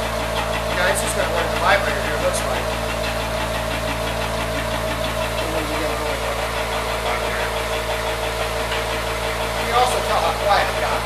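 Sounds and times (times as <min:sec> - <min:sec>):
conveyor motor humming: 0:00.0 - 0:11.0
rhythmic rattle of screw conveyor: 0:00.0 - 0:11.0.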